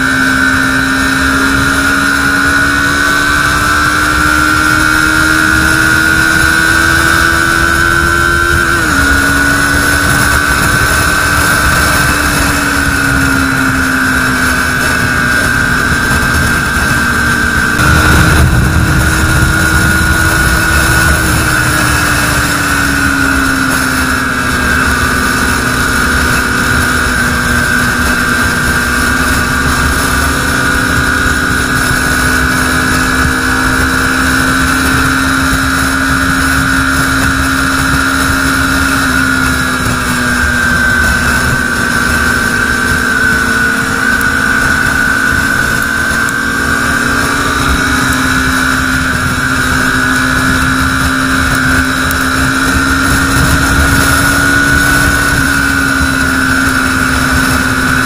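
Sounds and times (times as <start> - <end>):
motorcycle engine drone: 0.0 - 58.0
wind rush on microphone: 0.0 - 58.0.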